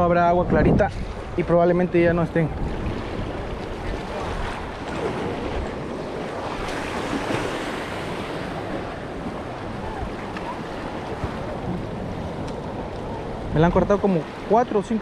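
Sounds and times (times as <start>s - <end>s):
wind on microphone: 0.0s - 15.0s
surf washing against rocks: 0.4s - 15.0s.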